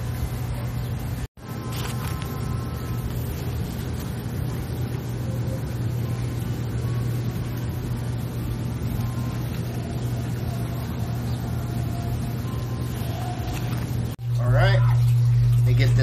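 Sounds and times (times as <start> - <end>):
constant background rush: 0.0 - 16.0
low mechanical hum: 0.0 - 16.0.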